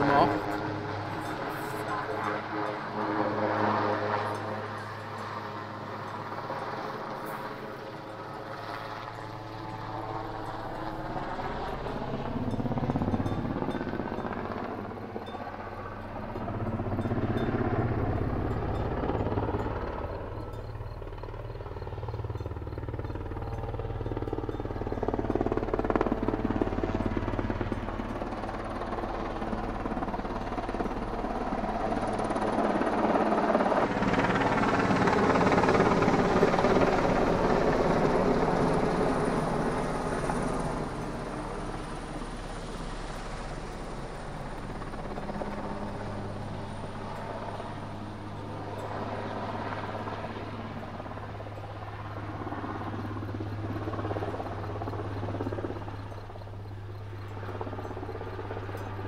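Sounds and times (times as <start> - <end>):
helicopter flying past: 0.0 - 59.0.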